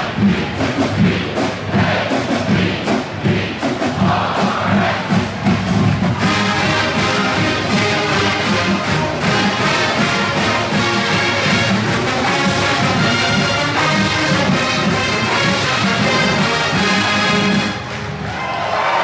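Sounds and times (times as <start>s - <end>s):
steady drum beat: 0.0s - 18.3s
marching band brass: 0.0s - 19.0s.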